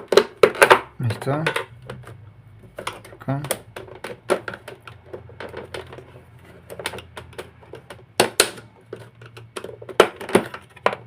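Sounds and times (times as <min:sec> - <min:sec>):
plastic parts clicking: 0:00.0 - 0:11.0.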